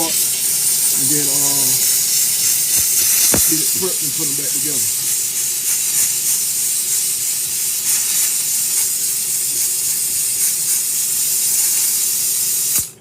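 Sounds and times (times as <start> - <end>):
air jet hissing: 0.0 - 13.0.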